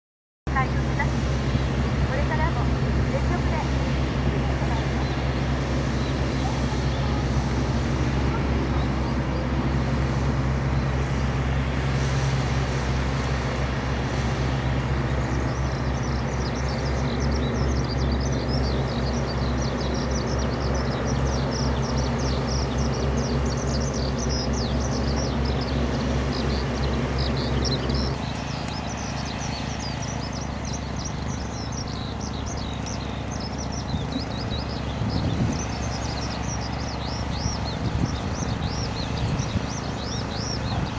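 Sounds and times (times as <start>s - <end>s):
tractor engine droning: 0.5s - 40.9s.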